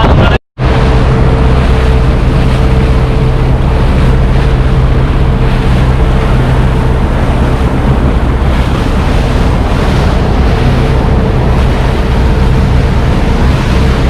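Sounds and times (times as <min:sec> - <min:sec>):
motorboat engine droning: 0:00.0 - 0:14.0
water rushing past hull: 0:00.0 - 0:14.0
wind buffeting microphone: 0:00.0 - 0:14.0.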